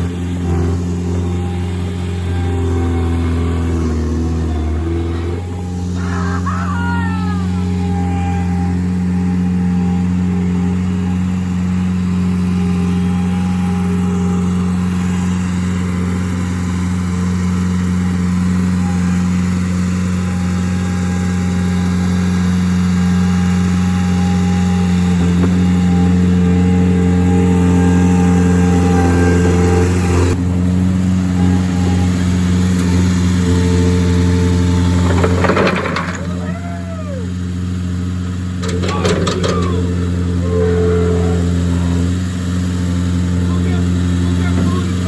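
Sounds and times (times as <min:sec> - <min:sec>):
loader engine running: 0:00.0 - 0:45.0.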